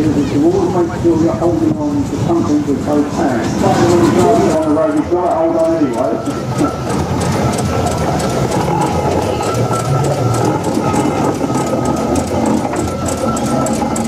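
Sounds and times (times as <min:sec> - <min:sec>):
steam traction engine clatter: 0:00.0 - 0:14.0.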